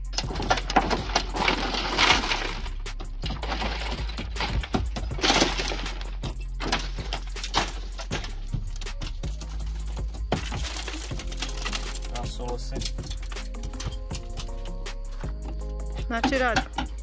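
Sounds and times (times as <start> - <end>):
glass cubes crunching and tinkling: 0.1 - 14.7.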